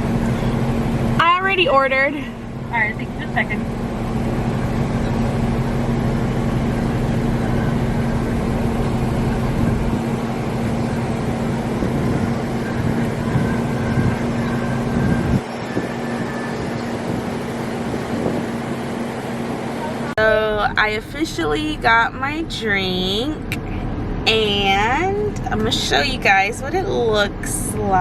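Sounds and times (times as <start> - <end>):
car engine hum inside cabin: 0.0 - 28.0
low rumble: 0.0 - 28.0.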